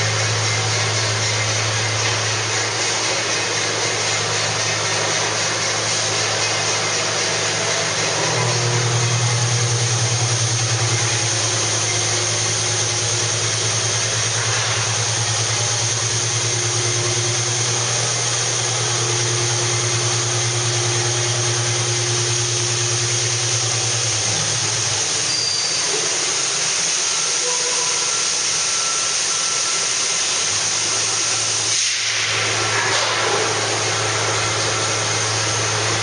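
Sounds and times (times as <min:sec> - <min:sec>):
industrial machinery humming: 0:00.0 - 0:36.0.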